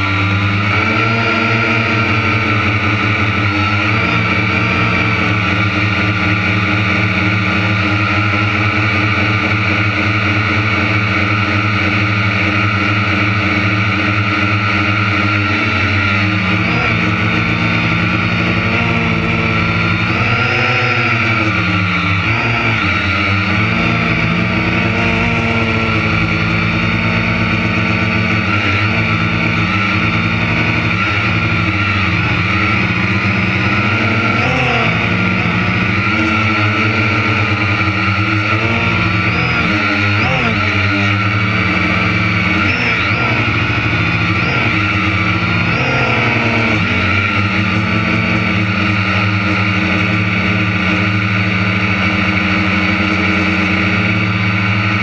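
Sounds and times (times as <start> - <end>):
large engine running under load: 0.0 - 55.0.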